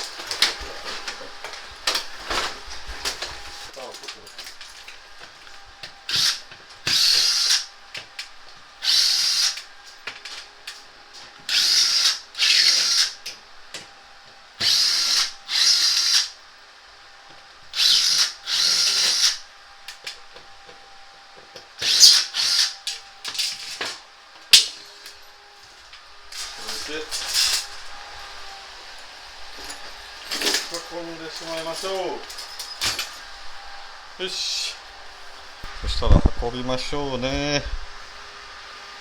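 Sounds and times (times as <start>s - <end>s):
power driver running: 0.0s - 16.4s, 17.2s - 39.0s.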